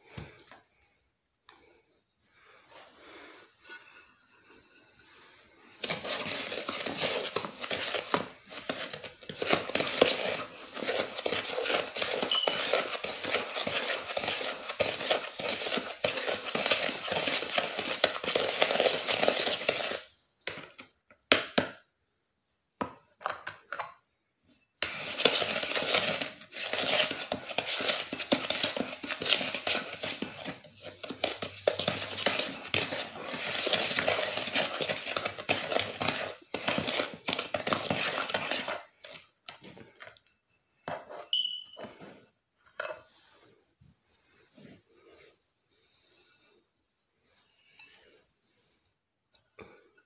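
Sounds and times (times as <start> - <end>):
spoon scraping gritty mix: 2.4 - 20.9, 23.2 - 46.6.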